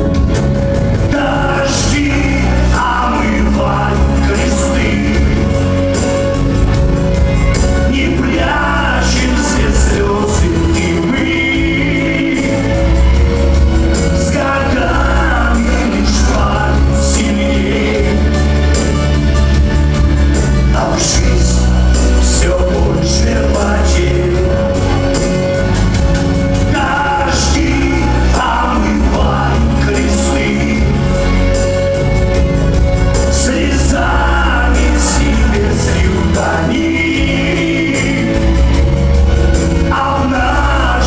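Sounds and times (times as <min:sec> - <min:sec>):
live band playing: 0:00.0 - 0:41.0.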